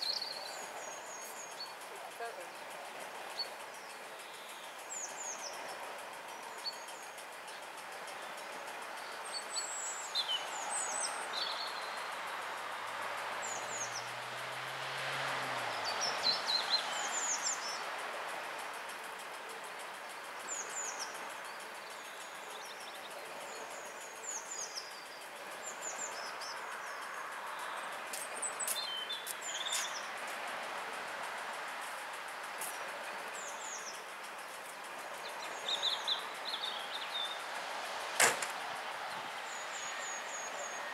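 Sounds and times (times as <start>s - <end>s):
background hiss: 0.0s - 40.9s
songbirds chirping: 0.0s - 40.9s.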